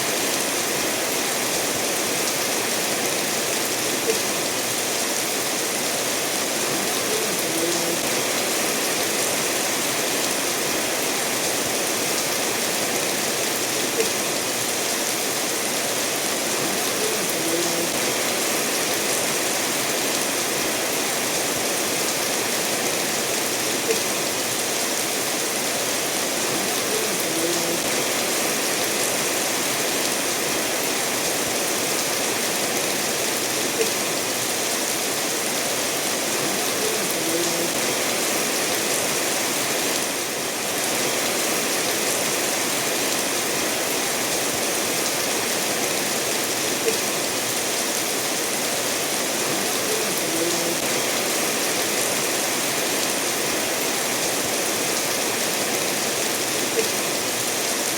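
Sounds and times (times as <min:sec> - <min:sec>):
steady rainfall: 0:00.0 - 0:57.9
stream running over stones: 0:00.0 - 0:57.9.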